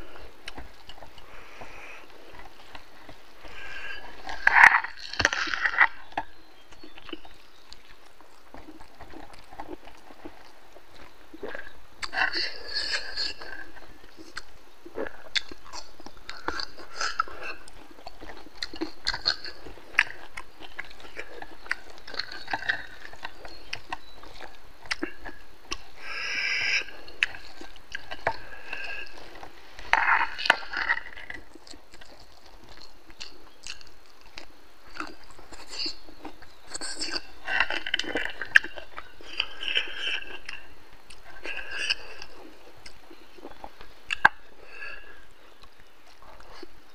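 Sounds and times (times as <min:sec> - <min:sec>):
mouth clicks: 0:00.0 - 0:46.9
person chewing food: 0:00.0 - 0:46.9.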